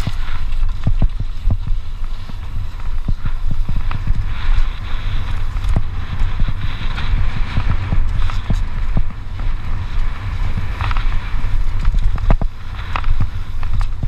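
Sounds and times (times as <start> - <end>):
bike knocking and rattling: 0.0 - 14.0
bike tyres on loose dirt: 0.0 - 14.0
wind buffeting microphone: 0.0 - 14.0.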